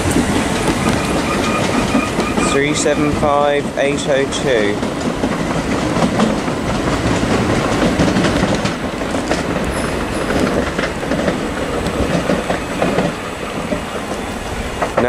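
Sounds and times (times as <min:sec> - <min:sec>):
train wheels clattering over rails: 0:00.0 - 0:15.0.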